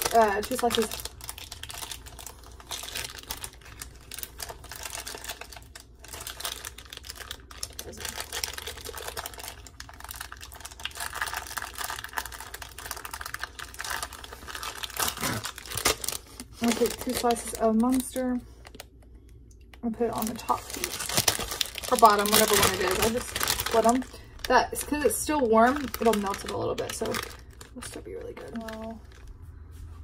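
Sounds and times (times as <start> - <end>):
plastic bag crinkling: 0.0 - 19.0, 19.7 - 29.3.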